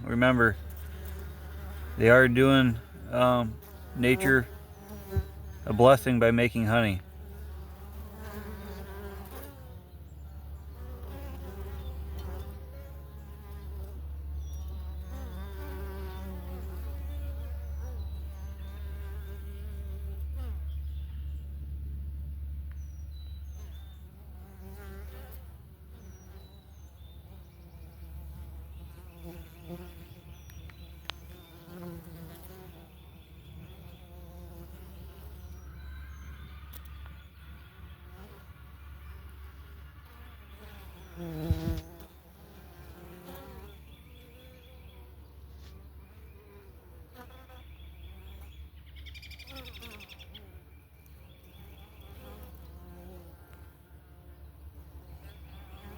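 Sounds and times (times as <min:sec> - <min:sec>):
bees buzzing: 0:00.0 - 0:20.6, 0:23.6 - 0:48.6, 0:51.2 - 0:55.9.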